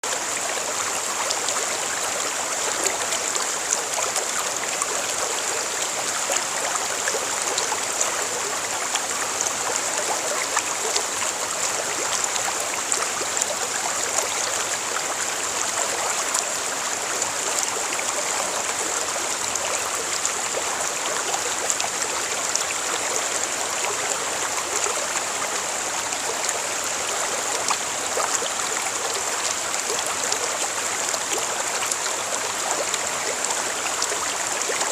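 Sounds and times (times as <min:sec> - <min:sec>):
stream water flowing: 0:00.0 - 0:34.9.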